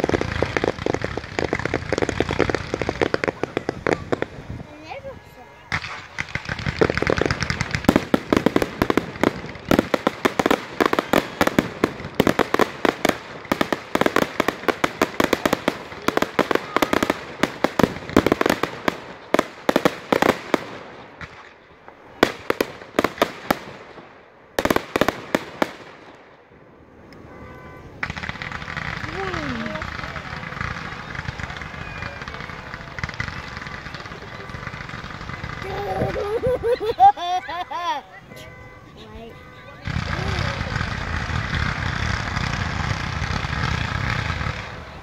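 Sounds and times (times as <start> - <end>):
fireworks cracking and banging: 0.0 - 45.0.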